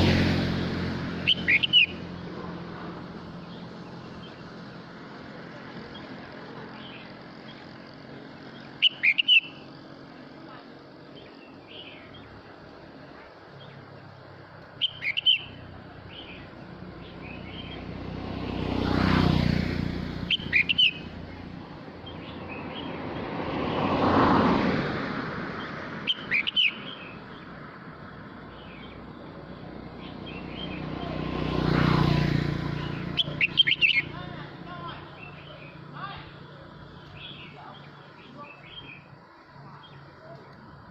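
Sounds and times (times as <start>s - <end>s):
bird singing warbled phrases: 0.0s - 19.5s, 20.2s - 23.8s, 25.6s - 27.7s, 28.3s - 40.9s.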